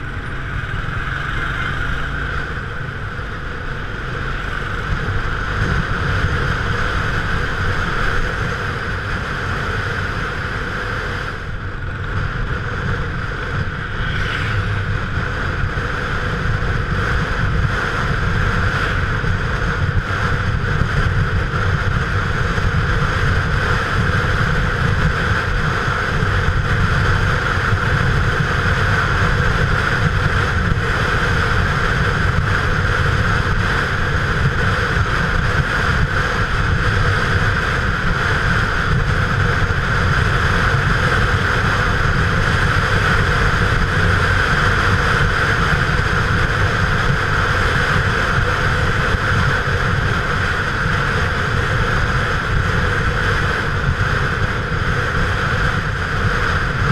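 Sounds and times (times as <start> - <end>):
motorcycle engine running: 0.0 - 56.9
wind rushing over microphone: 0.0 - 56.9.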